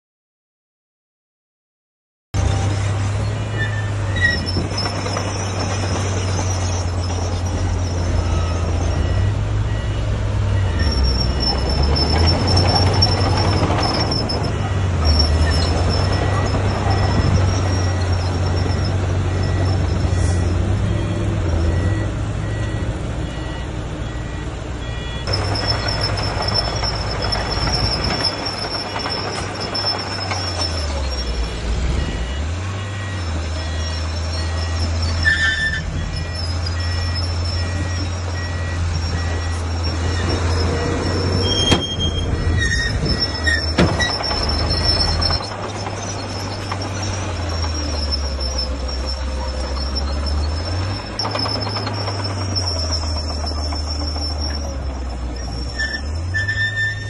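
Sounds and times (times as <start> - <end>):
heavy machinery diesel engines: 2.4 - 57.0.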